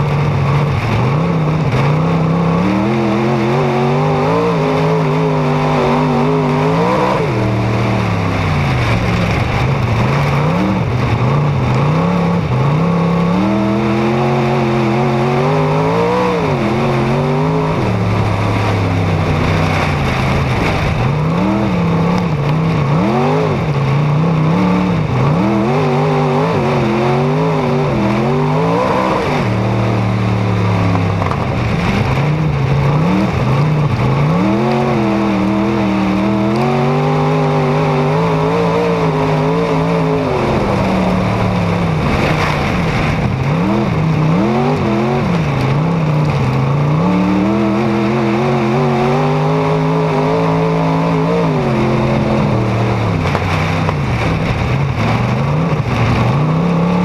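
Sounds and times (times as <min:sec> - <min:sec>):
race car engine revving: 0:00.0 - 0:57.0
wind and tyre noise: 0:00.0 - 0:57.0.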